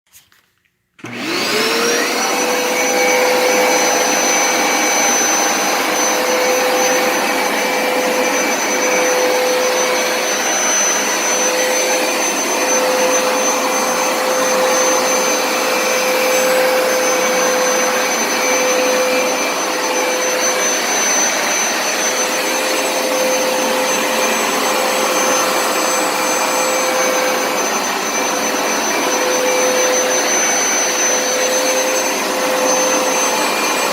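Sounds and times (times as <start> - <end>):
carpet cleaner motor whine: 1.0 - 33.9.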